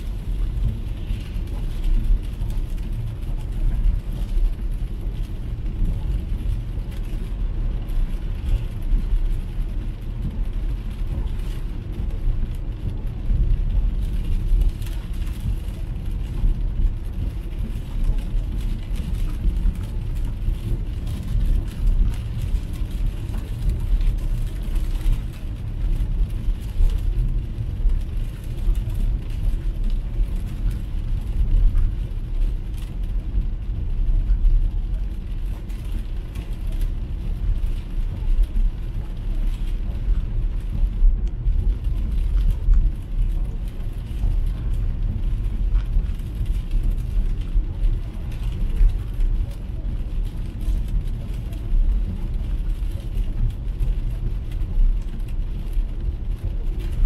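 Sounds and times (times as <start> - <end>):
rain and spray hiss: 0.0 - 57.0
tyres rumbling on wet road: 0.0 - 57.0.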